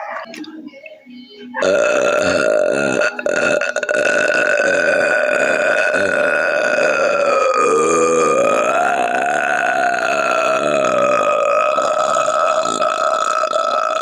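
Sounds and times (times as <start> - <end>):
woman belching: 1.6 - 14.0.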